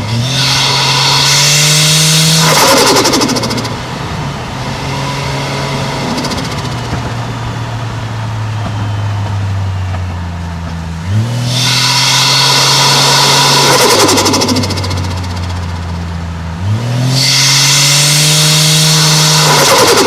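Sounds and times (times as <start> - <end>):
car engine revving under load: 0.0 - 20.0.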